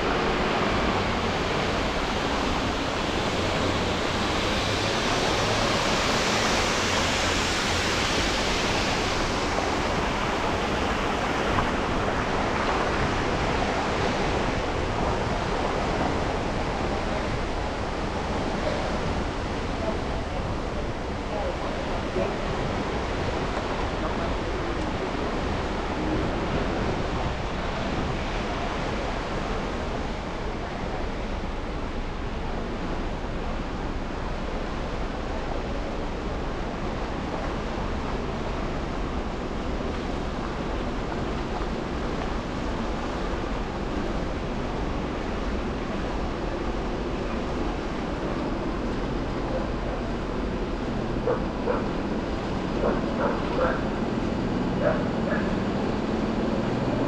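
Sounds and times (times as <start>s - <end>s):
car tyres and engine on road: 0.0s - 57.0s.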